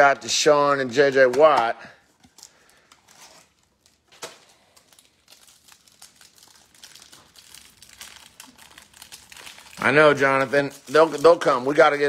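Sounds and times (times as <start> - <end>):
plastic wrap crinkling: 2.1 - 12.0.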